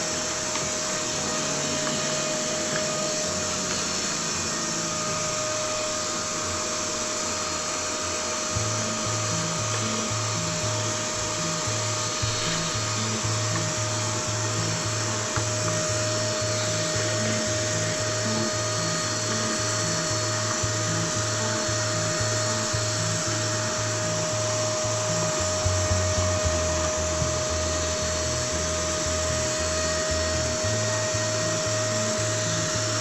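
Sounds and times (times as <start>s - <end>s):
music with pulsing bass: 0.0s - 7.3s, 8.2s - 33.0s
power tool whining: 0.0s - 33.0s.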